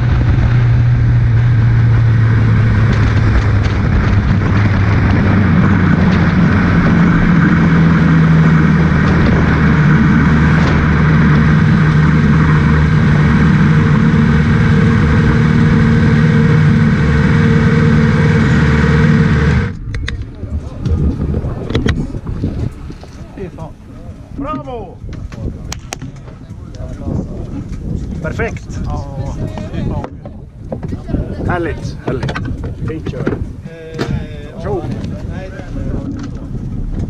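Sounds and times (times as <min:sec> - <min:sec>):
race car engine at low revs: 0:00.0 - 0:37.0.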